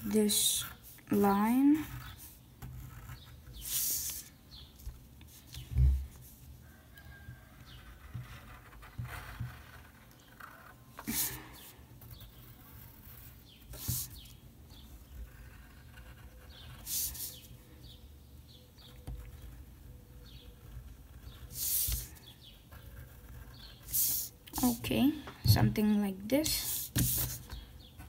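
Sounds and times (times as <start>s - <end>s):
pencil scratching on paper: 0.0s - 4.3s, 7.2s - 17.7s, 18.9s - 25.0s, 25.6s - 28.0s.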